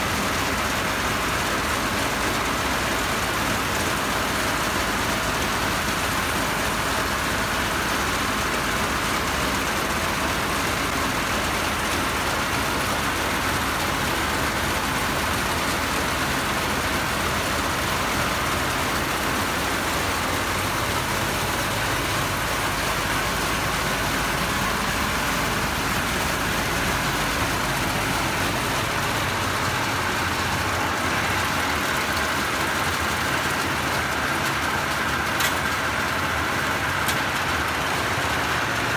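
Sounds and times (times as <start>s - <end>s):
threshing machine drone: 0.1s - 38.9s.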